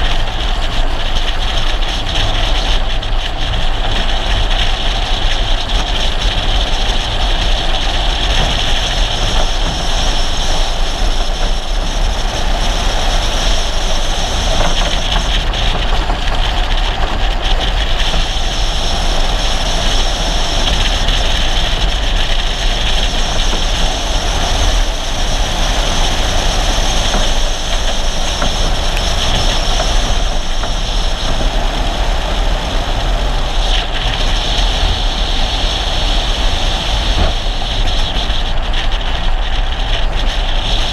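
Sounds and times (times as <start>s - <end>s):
wind on microphone: 0.0s - 40.9s.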